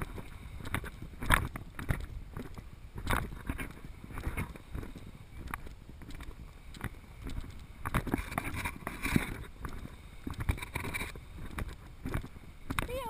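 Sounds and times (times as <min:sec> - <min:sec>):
dull thumps and rustles: 0:00.0 - 0:13.0
footsteps on sand: 0:00.0 - 0:13.0
wind rumbling on microphone: 0:00.0 - 0:13.0.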